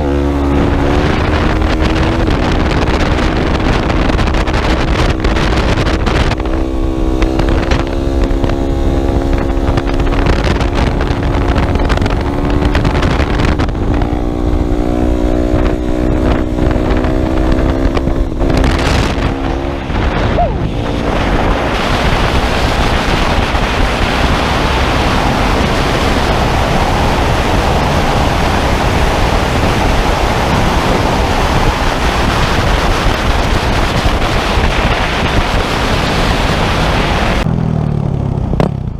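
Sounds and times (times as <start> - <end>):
rushing noise: 0.0 - 37.5
dirt bike engine running: 0.0 - 38.9
wind rumbling on microphone: 0.0 - 38.9.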